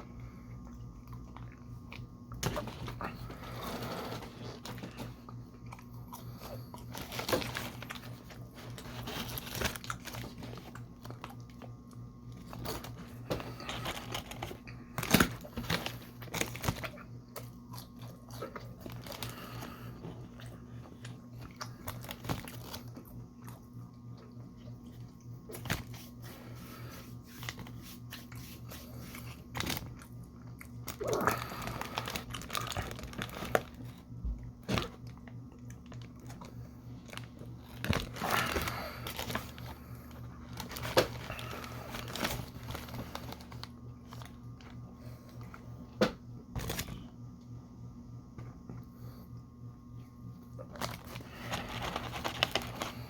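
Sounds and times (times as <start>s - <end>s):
steady low hum: 0.0s - 53.0s
crunchy chewing and bites: 0.5s - 26.5s, 27.2s - 45.6s.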